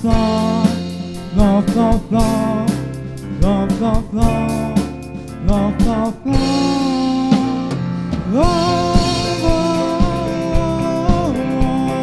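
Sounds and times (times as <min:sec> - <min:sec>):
drum hits: 0:00.0 - 0:12.0
live band playing pop ballad: 0:00.0 - 0:12.0
singer holding long notes: 0:00.0 - 0:12.0.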